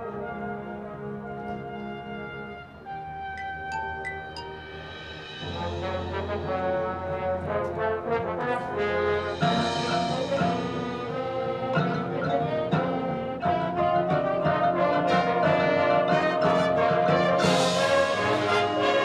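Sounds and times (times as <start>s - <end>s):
marching band brass playing: 0.0s - 19.0s.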